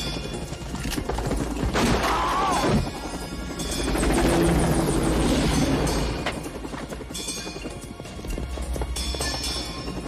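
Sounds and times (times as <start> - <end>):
film score music: 0.0 - 10.0
helicopter rotor chopping: 0.3 - 9.2.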